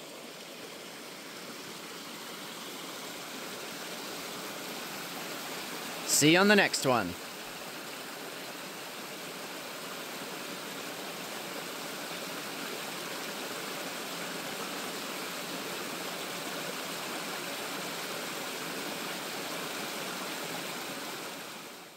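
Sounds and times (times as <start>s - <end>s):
stream running over stones: 0.0s - 21.9s.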